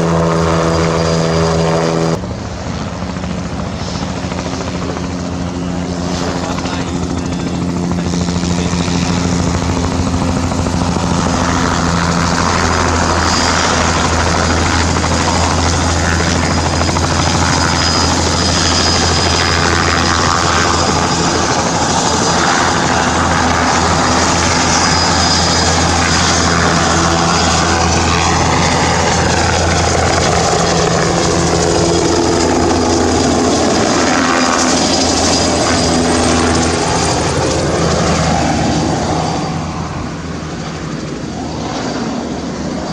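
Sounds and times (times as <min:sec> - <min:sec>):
helicopter main rotor beating: 0:00.0 - 0:42.9
turbine engine whine: 0:00.0 - 0:42.9.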